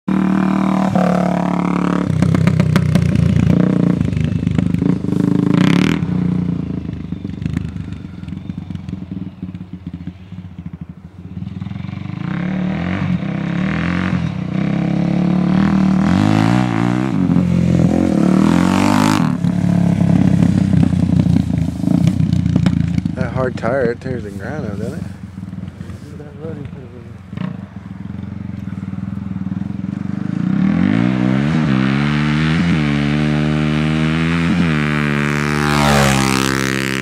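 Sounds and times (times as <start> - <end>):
dirt bike engine revving: 0.1 - 37.0.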